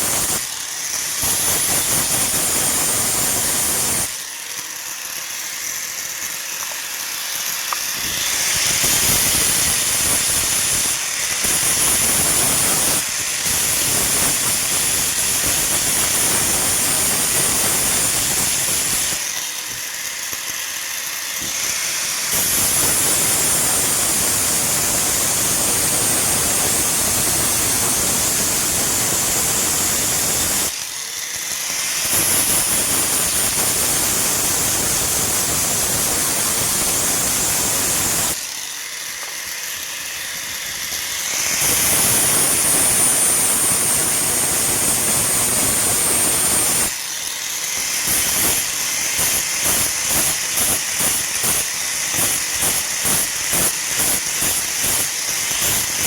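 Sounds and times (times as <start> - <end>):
power grinder grinding steel: 0.0 - 56.0.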